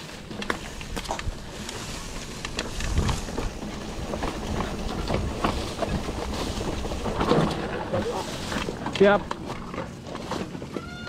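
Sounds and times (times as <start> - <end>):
mountain bike rattling on dirt trail: 0.0 - 11.0
tyres rumbling: 0.0 - 11.0.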